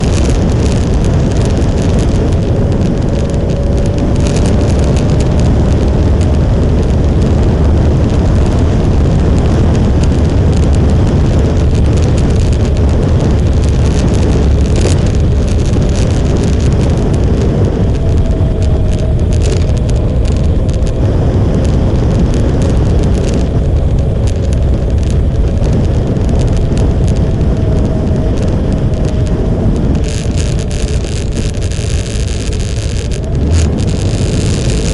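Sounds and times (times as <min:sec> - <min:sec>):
motorcycle engine drone: 0:00.0 - 0:34.9
wind rushing on microphone: 0:00.0 - 0:34.9.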